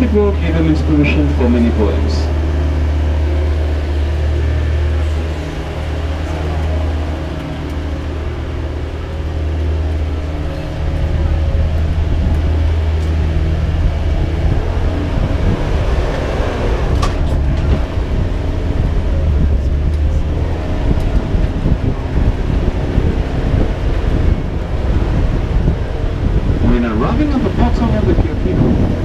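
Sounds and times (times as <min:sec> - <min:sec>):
ride rumble: 0:00.0 - 0:29.0
vehicle engine hum: 0:00.0 - 0:29.0.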